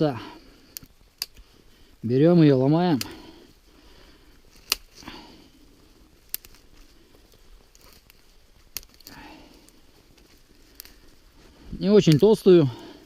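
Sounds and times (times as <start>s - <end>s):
branches crackling and rustling: 0.0s - 13.0s
twigs snapping: 0.6s - 1.7s, 2.9s - 13.0s.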